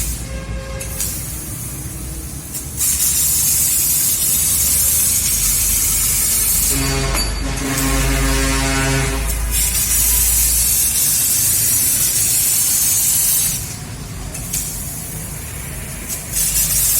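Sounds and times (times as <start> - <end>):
laser cutter gas jet hissing: 0.0 - 16.9
machine hum with steady tones: 0.0 - 16.9.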